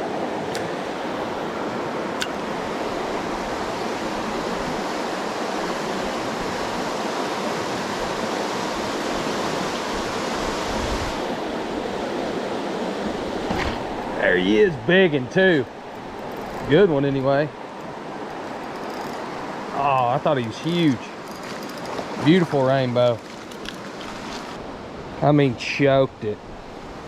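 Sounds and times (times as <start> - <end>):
river water running over rocks: 0.0 - 25.1.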